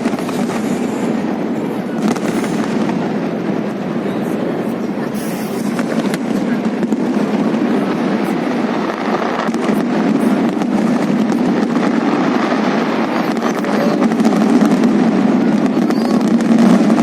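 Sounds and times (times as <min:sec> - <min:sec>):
fireworks banging: 0:00.0 - 0:17.0
fireworks crackling pops: 0:00.0 - 0:17.0.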